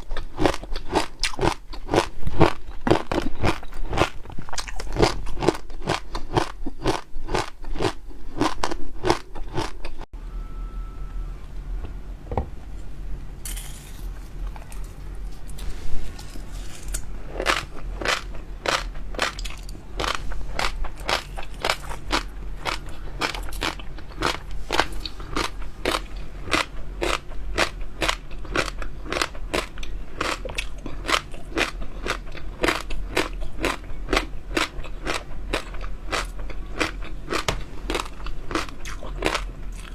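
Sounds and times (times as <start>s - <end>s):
chewing crunchy jelly pearls: 0.0s - 10.1s, 13.5s - 39.9s.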